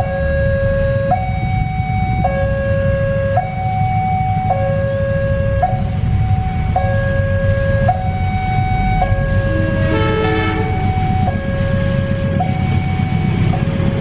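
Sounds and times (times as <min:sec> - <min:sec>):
diesel locomotive rumble: 0:00.0 - 0:14.0
two-tone crossing alarm: 0:00.0 - 0:14.0.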